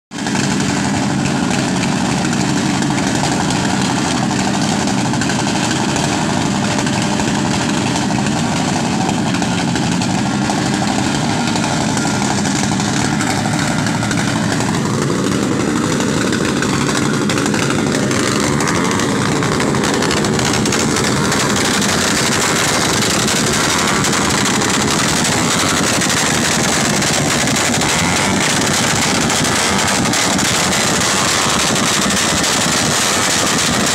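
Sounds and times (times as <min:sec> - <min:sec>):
motorcycle engines at high revs: 0:00.1 - 0:33.9.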